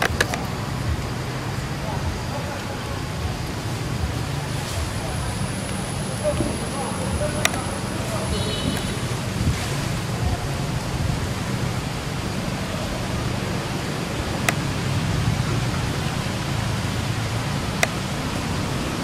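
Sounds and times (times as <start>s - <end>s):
hiss-like background noise: 0.0s - 19.0s.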